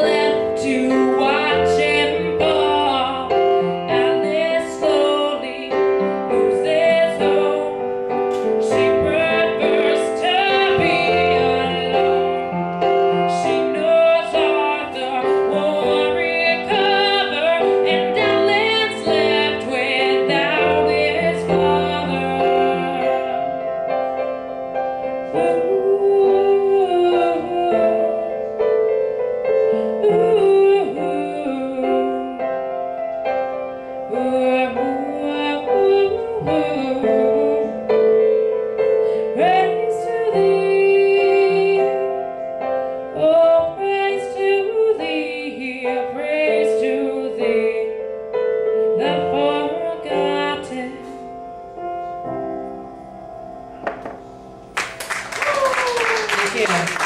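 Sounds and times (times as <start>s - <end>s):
woman singing: 0.0s - 23.6s, 25.2s - 28.6s, 29.7s - 32.5s, 34.1s - 42.4s, 43.1s - 48.1s, 48.8s - 51.3s
piano ballad: 0.0s - 57.0s.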